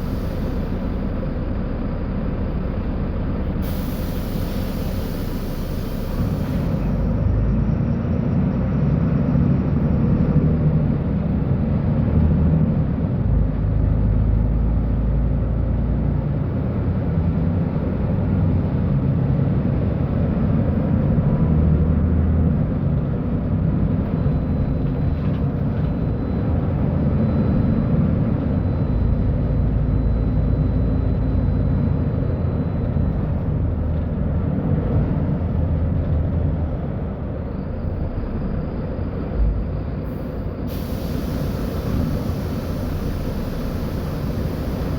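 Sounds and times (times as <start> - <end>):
bus diesel engine rumbling: 0.0 - 44.9.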